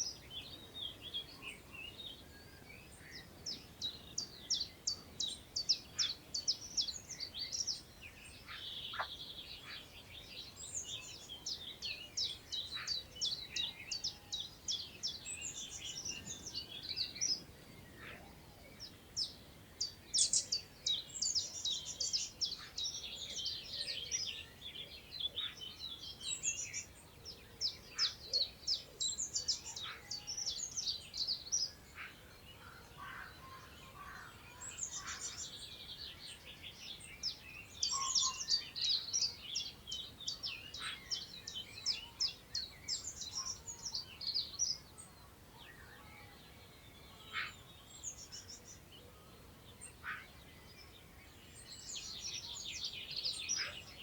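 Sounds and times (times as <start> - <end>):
birds chirping and trilling: 0.0 - 54.0
wind through long grass: 0.0 - 54.0.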